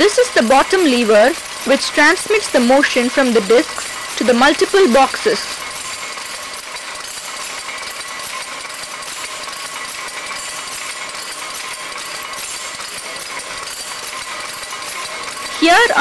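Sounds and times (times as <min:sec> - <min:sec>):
loom metallic clatter: 0:00.0 - 0:16.0.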